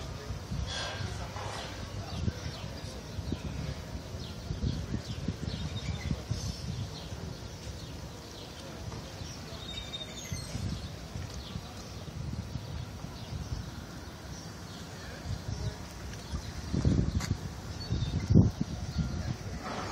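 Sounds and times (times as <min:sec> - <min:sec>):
wind rumble on microphone: 0:00.0 - 0:19.9
small birds chirping: 0:00.1 - 0:19.6.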